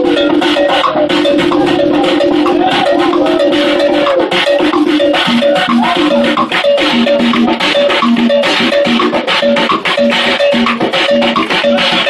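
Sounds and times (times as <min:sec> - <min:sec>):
drum kit and percussion: 0:00.0 - 0:12.0
riff of quick repeated notes: 0:00.0 - 0:12.0.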